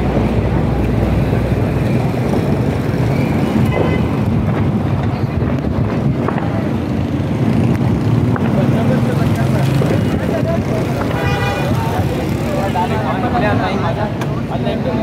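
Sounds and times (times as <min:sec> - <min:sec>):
wind on microphone: 0:00.0 - 0:12.1
car engine and road rumble: 0:00.0 - 0:15.0.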